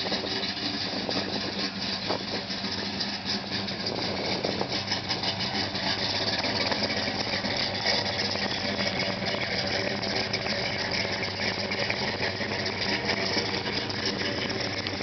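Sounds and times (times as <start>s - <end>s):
vee-eight engine idling: 0.0s - 15.0s.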